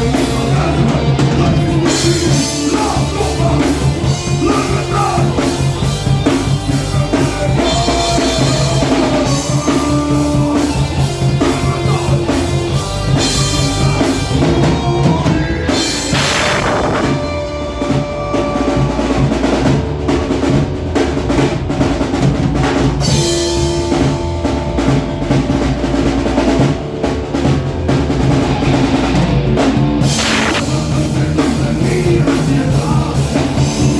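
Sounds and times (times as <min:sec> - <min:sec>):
distorted guitars: 0:00.0 - 0:33.9
drum kit: 0:00.0 - 0:33.9.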